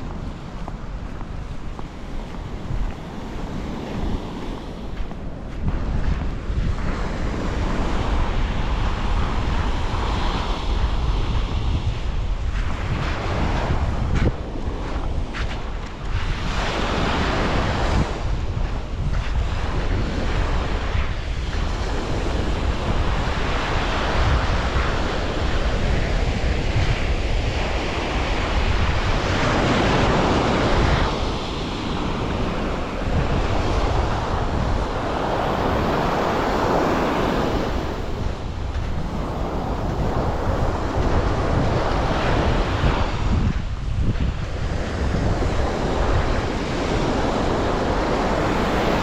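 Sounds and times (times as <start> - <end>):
sea waves breaking on shore: 0.0 - 49.0
wind buffeting microphone: 0.0 - 49.0.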